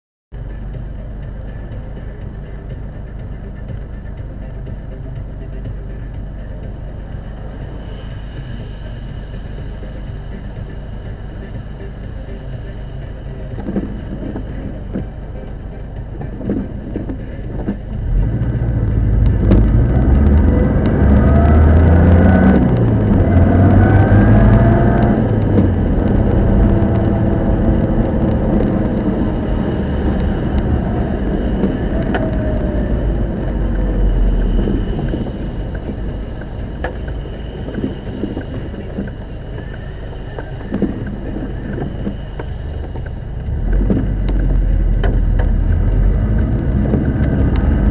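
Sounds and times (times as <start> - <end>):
car engine and drivetrain pulling: 0.4 - 47.9
whining tones: 6.4 - 47.9.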